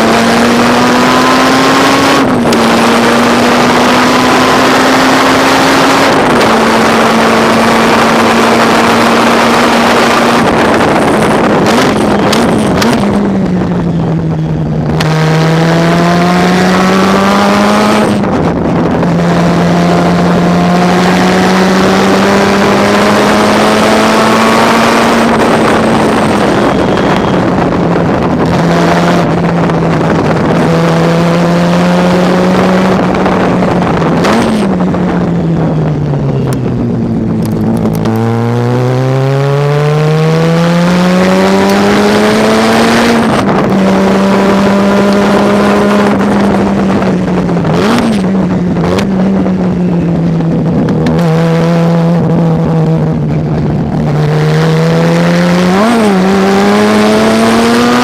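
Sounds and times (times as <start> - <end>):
downshift throttle blips: 0.0 - 58.0
race car engine at full throttle: 0.0 - 58.0.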